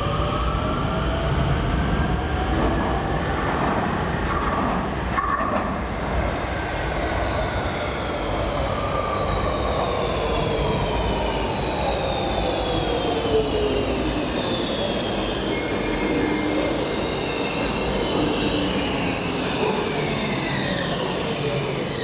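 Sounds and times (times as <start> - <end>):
rumble of wheels on rails: 0.0 - 22.0.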